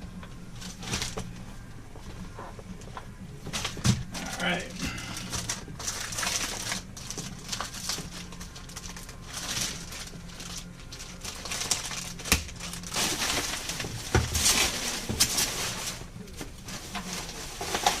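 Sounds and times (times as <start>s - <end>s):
crinkling and rustling: 0.0s - 18.0s
steady low hum: 0.0s - 18.0s.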